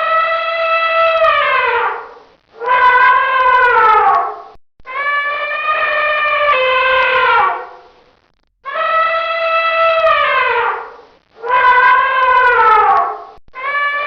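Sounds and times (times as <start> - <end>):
elephant trumpeting: 0.1 - 7.9, 8.7 - 14.0.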